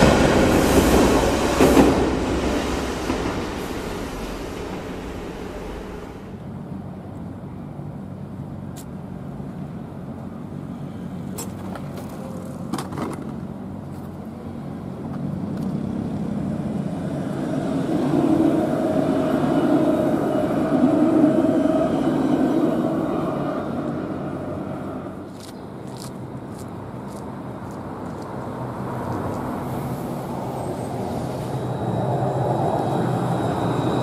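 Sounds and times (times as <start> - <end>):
tram passing by with whine: 0.0 - 34.0.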